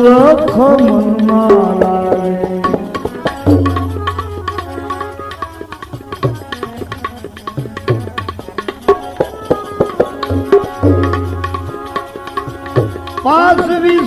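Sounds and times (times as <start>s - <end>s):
hand drum rhythm: 0.0s - 14.0s
steady held melody notes: 0.0s - 14.0s.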